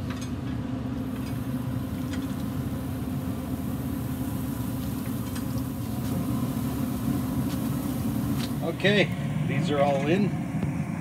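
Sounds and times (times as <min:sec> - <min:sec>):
grill fan humming: 0:00.0 - 0:11.0.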